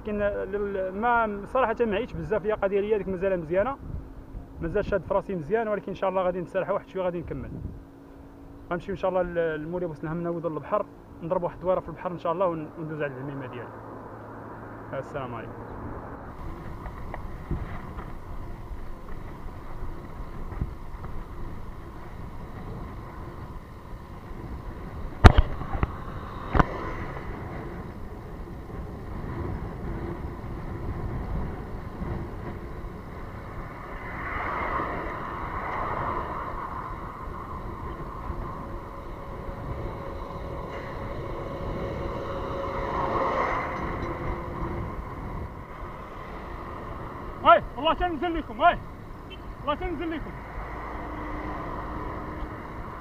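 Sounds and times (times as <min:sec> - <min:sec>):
motor vehicles passing: 0:00.0 - 0:53.0
wind rushing over microphone: 0:00.0 - 0:53.0.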